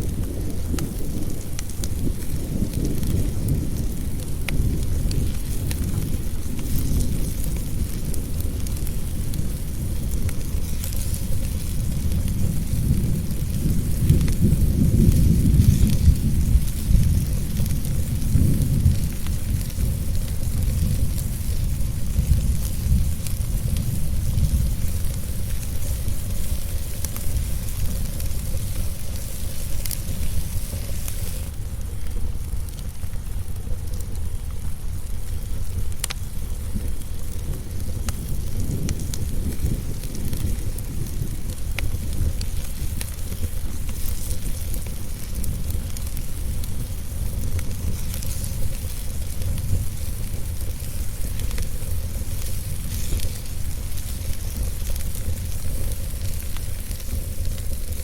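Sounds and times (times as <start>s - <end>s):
wood fire crackling and popping: 0.0s - 58.0s
hiss: 4.6s - 58.0s.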